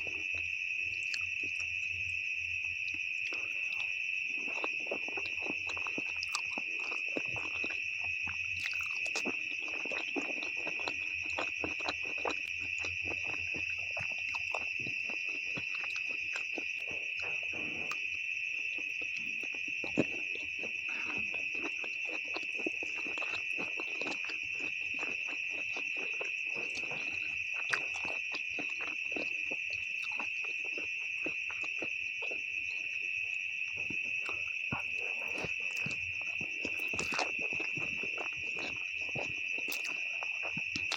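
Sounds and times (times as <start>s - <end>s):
slurping and chewing noodles: 0.0s - 2.1s, 2.8s - 40.9s.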